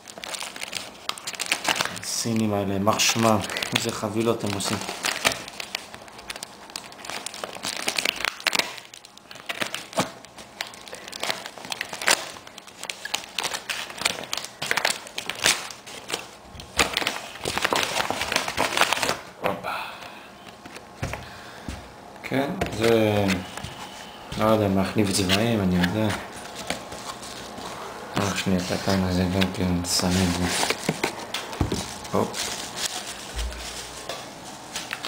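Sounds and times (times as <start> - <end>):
packaging crinkling and tearing: 0.0 - 19.3, 22.8 - 35.0.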